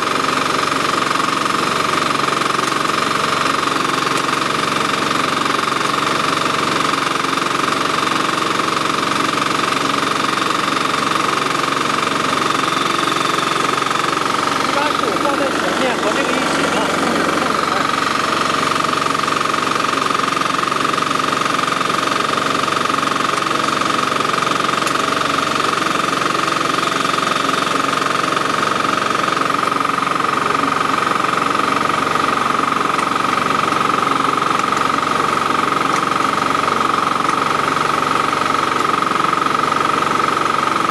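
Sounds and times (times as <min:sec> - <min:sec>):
sprayer engine running: 0:00.0 - 0:40.9.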